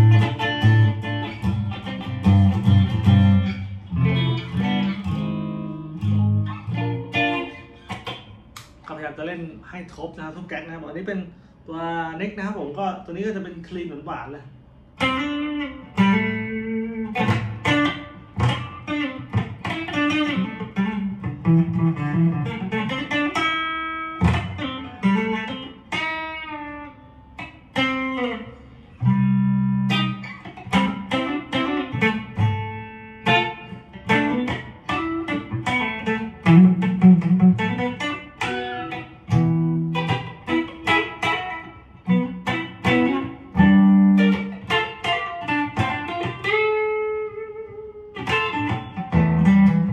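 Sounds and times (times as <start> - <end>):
clean electric guitar: 0.0 - 9.2, 14.4 - 49.9.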